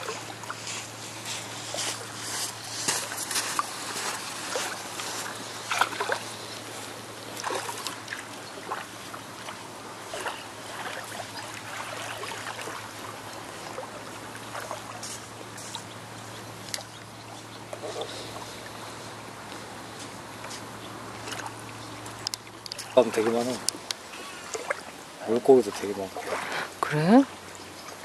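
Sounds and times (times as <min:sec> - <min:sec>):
child wading in shallow water: 0:00.0 - 0:28.0
steady low hum: 0:00.0 - 0:28.0.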